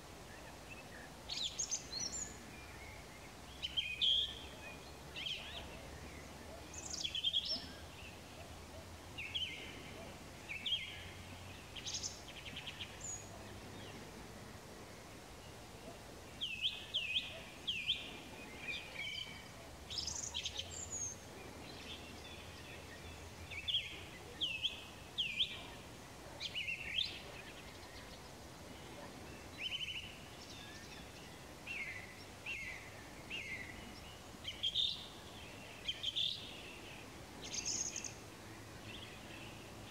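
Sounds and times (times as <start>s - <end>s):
faint background hiss: 0.0s - 39.9s
songbirds chirping and whistling: 0.0s - 39.9s.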